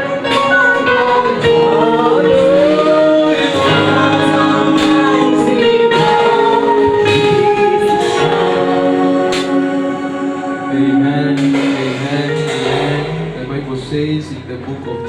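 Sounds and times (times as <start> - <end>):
choir singing long notes: 0.0 - 15.0
instrumental backing: 0.0 - 15.0.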